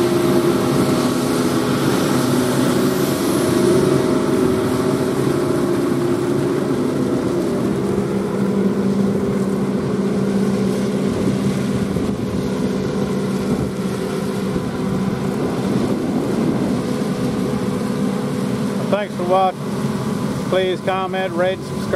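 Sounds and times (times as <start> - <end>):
tractor engine drone: 0.0 - 21.9.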